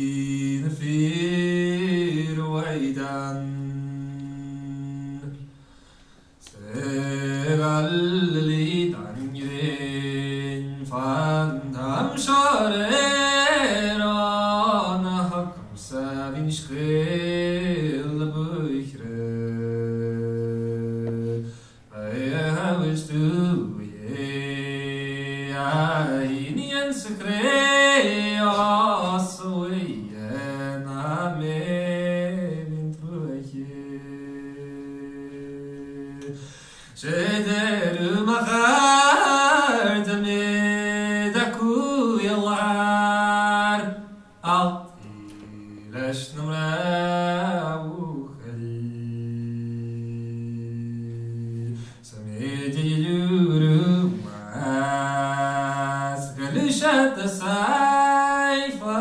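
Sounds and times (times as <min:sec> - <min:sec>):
man singing unaccompanied: 0:00.0 - 0:05.5, 0:06.4 - 0:59.0.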